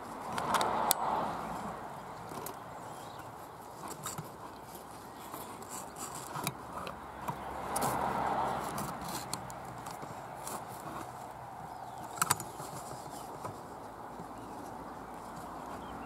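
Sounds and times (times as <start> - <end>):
twigs brushing and scraping: 0.0 - 16.0.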